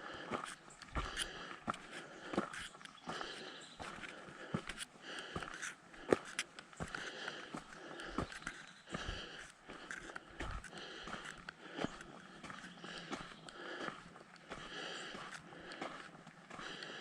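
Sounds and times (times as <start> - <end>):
heavy breathing: 0.0 - 17.0
footsteps scuffing on trail: 0.1 - 17.0.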